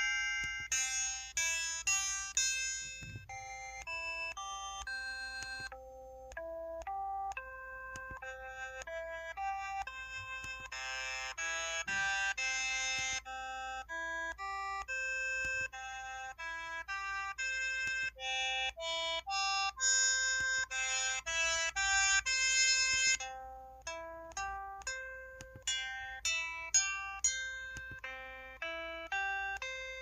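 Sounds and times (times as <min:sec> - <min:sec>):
ringing plucked notes: 0:00.0 - 0:30.0.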